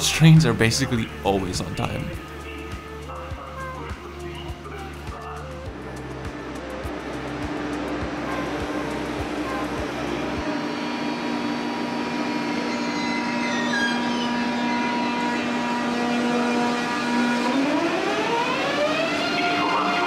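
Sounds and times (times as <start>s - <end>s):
train traction equipment humming: 0.0s - 20.0s
whine rising in pitch: 0.0s - 20.0s.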